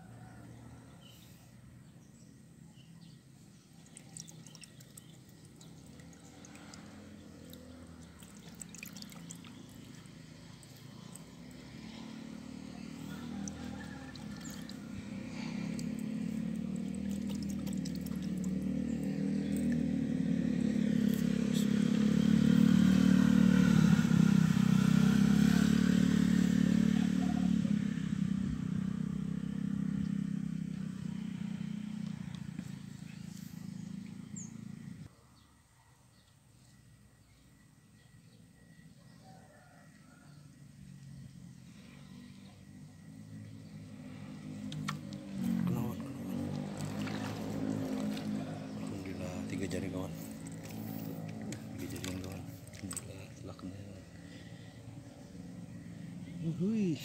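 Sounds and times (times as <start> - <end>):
vehicle engine passing by: 0.0 - 35.6, 36.6 - 57.0.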